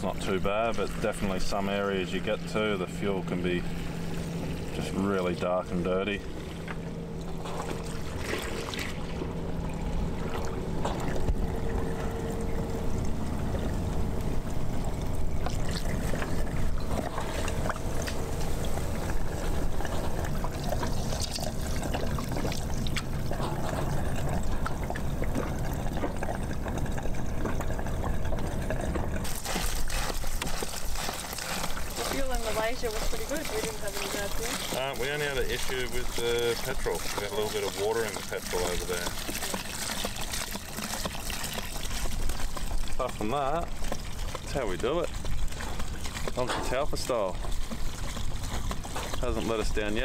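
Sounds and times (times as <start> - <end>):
fuel pouring and splashing: 0.0 - 50.0.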